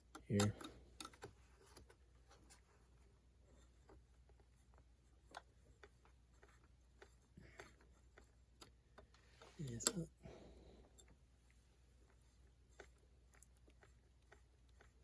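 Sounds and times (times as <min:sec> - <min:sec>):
small clicks and scratching: 0:00.0 - 0:10.2, 0:10.8 - 0:15.0.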